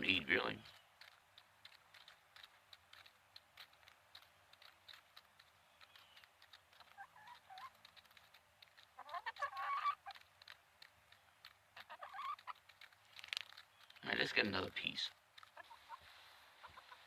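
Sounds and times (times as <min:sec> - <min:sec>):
hens clucking: 0:00.0 - 0:17.0
hens pecking taps: 0:00.0 - 0:17.0.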